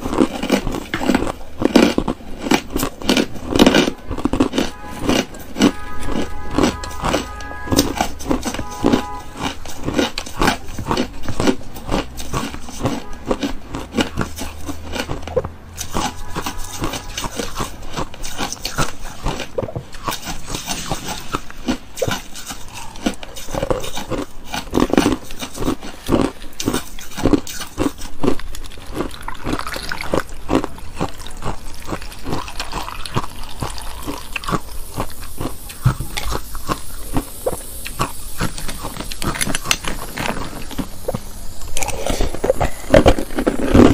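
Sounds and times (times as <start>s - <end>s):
ice being chewed: 0.0s - 43.9s.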